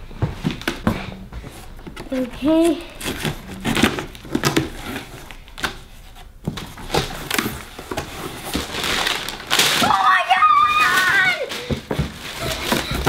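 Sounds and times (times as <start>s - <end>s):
packing paper crinkling: 2.0s - 13.0s.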